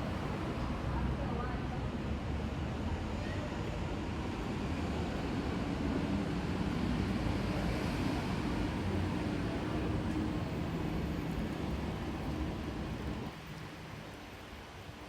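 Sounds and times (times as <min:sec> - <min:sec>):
city street rumble: 0:00.0 - 0:15.0.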